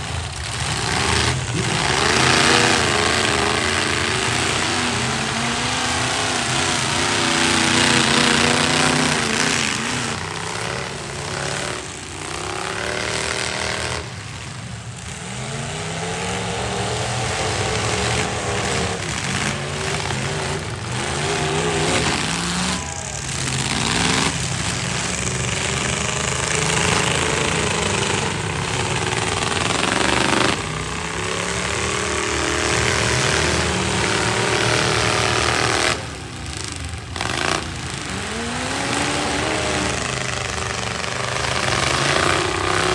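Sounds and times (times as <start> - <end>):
truck engines revving: 0.0 - 42.9.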